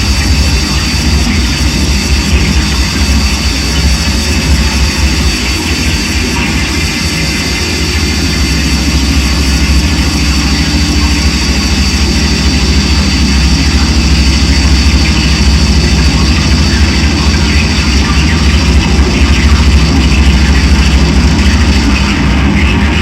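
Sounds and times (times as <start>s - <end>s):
electronic drone noise music: 0.0s - 23.0s.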